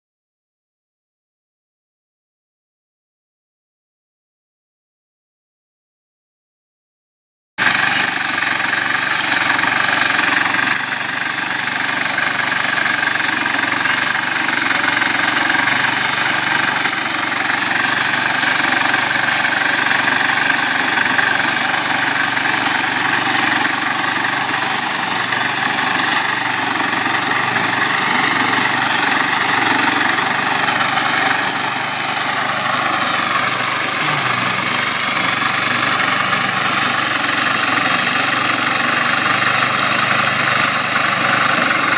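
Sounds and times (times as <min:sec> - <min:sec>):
flail mulcher engine under load: 0:07.6 - 0:41.9.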